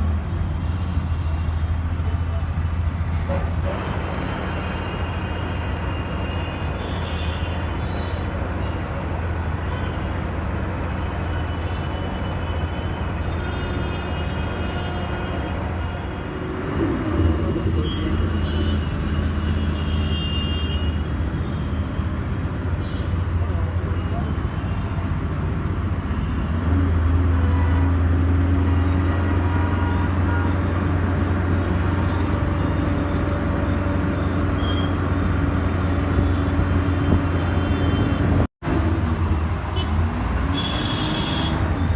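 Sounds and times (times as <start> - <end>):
bus engine drone: 0.0 - 41.9
road and traffic noise: 0.0 - 41.9.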